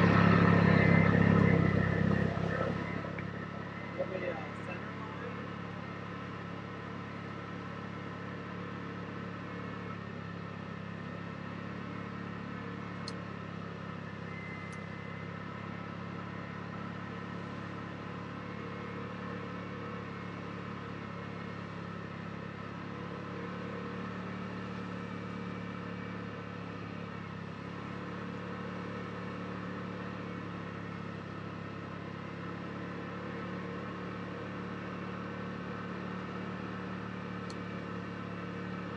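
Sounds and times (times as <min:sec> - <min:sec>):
engine droning at cruise: 0:00.0 - 0:38.9.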